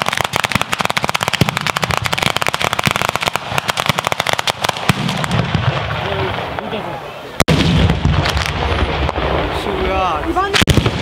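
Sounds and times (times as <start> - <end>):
firecrackers cracking: 0.0 - 11.0.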